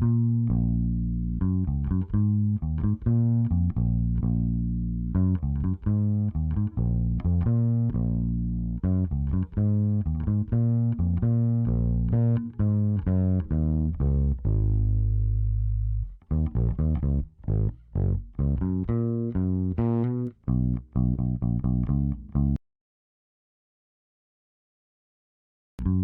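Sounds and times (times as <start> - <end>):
solo electric bass notes: 0.0 - 22.6, 25.8 - 26.0.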